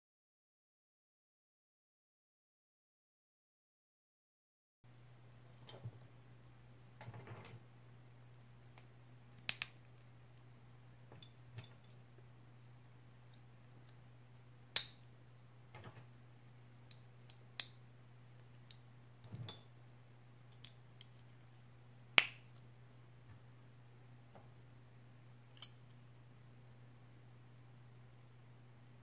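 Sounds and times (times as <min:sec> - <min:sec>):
low steady hum: 0:04.9 - 0:29.0.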